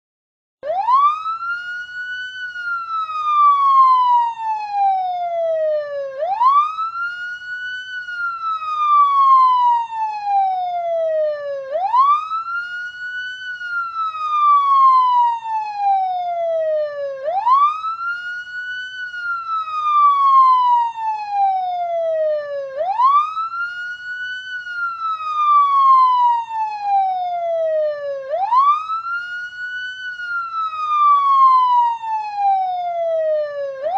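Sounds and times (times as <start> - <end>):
police siren wailing: 0.6 - 33.9.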